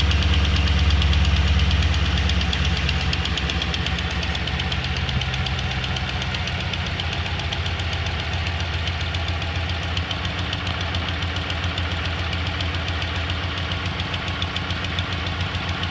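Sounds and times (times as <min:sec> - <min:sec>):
car engine idling: 0:00.0 - 0:15.9
rapid engine ticking: 0:00.0 - 0:15.9.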